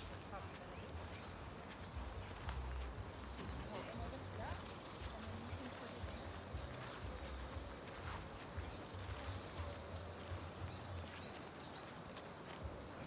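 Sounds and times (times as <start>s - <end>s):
crickets chirring: 0.0s - 13.0s
footsteps on grass: 0.0s - 13.0s.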